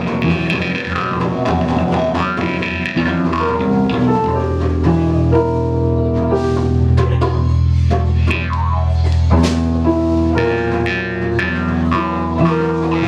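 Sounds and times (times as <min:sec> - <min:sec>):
bass guitar: 0:00.0 - 0:13.0
live blues band playing: 0:00.0 - 0:13.0
plucked strings: 0:00.0 - 0:13.0.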